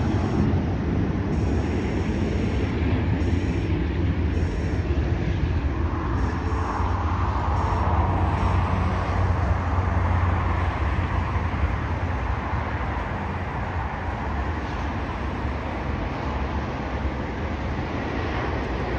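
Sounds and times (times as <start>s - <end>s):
higher engine hum: 0.0s - 18.9s
jet engines low rumble: 0.0s - 18.9s.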